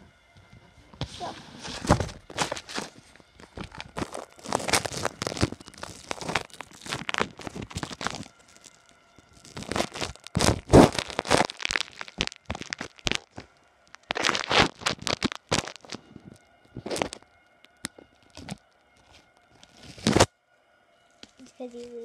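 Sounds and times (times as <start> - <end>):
plastic bag crinkling: 1.0 - 17.2, 17.8 - 20.3.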